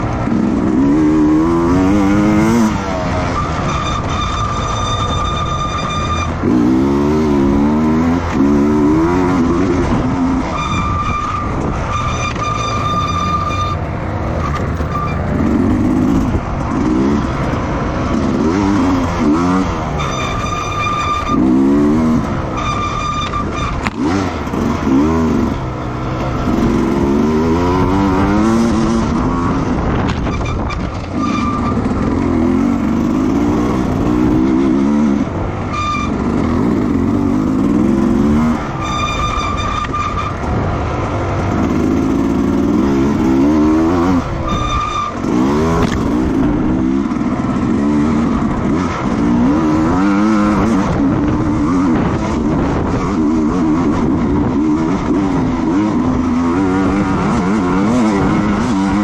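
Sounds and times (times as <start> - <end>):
racing motorcycle engines revving: 0.0 - 59.0.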